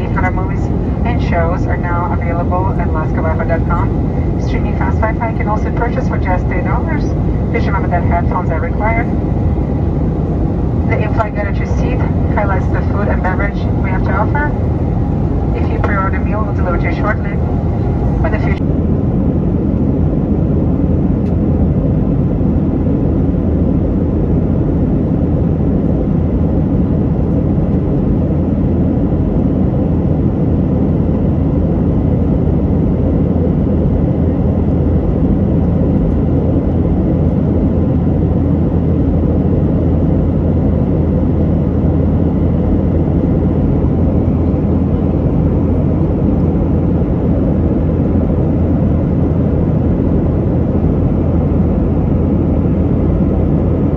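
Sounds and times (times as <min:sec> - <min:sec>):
jet engine cabin rumble: 0:00.0 - 0:53.9.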